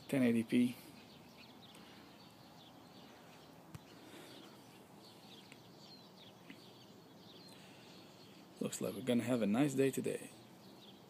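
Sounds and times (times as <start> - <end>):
faint small birds chirping: 0.0 - 11.0
quiet outdoor hiss: 0.0 - 11.0.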